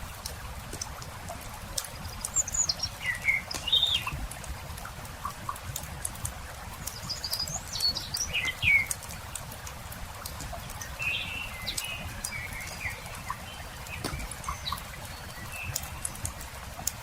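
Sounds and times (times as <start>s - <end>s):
campfire crackling: 0.0s - 17.0s
small birds chirping: 1.8s - 4.5s, 5.2s - 9.6s, 10.3s - 17.0s.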